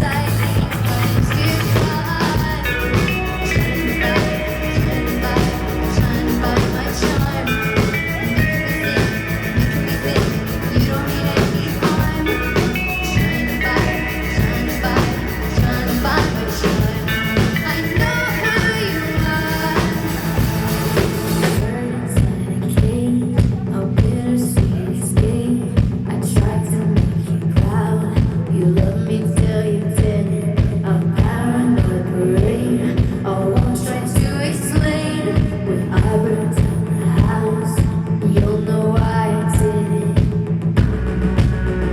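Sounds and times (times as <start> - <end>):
live pop-rock band playing: 0.0 - 41.9.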